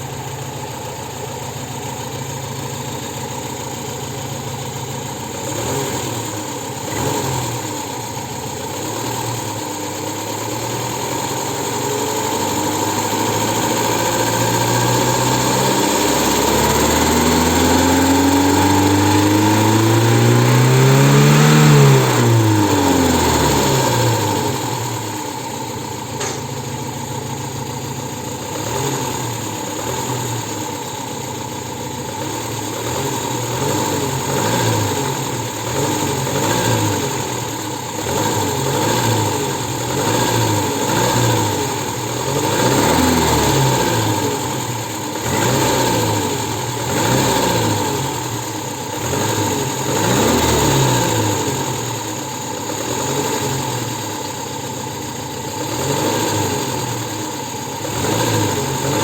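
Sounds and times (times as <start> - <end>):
engine idling and revving: 0.0 - 59.0
engine knocking: 0.0 - 59.0.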